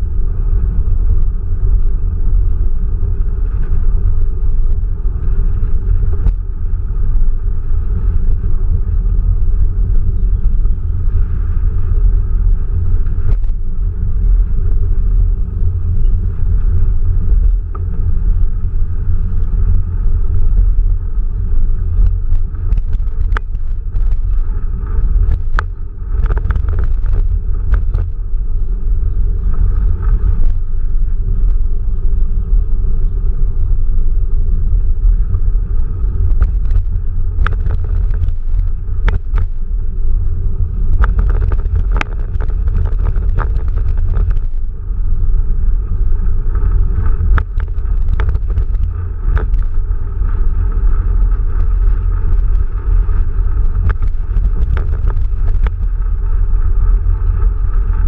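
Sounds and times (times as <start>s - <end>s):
deep rolling noise: 0.0s - 58.0s.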